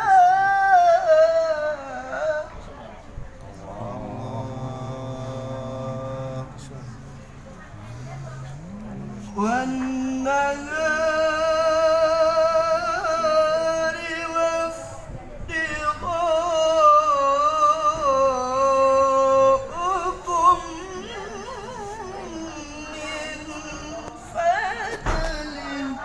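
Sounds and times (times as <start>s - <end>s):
man reciting melodically: 0.0s - 7.5s, 8.2s - 26.0s.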